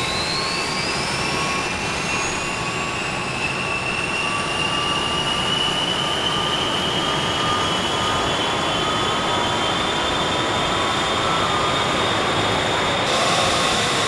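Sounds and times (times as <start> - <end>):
jet engines spooling up: 0.0 - 14.0.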